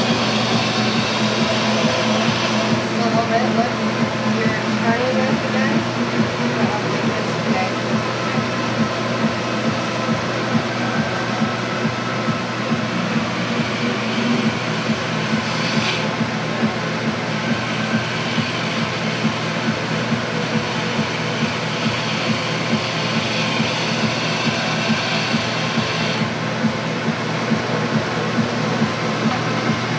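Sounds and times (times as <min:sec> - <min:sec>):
wood lathe running: 0:00.0 - 0:29.9.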